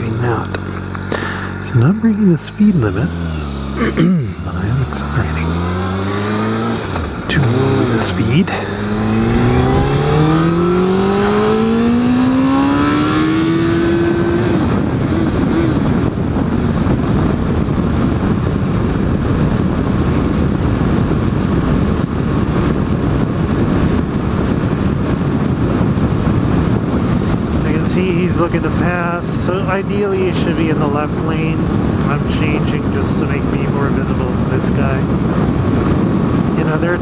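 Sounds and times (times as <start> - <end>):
motorcycle engine revving: 0.0 - 32.6
wind and road noise: 0.0 - 37.0.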